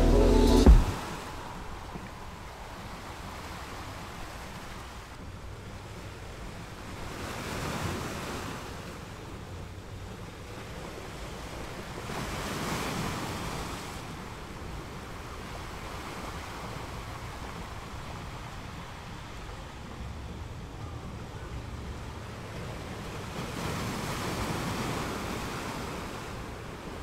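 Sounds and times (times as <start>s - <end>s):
surf rushing ashore: 0.0s - 27.0s.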